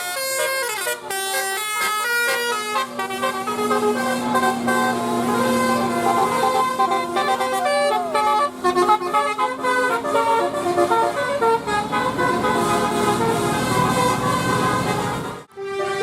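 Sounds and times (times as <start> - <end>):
bus musical horn melody: 0.0 - 16.0.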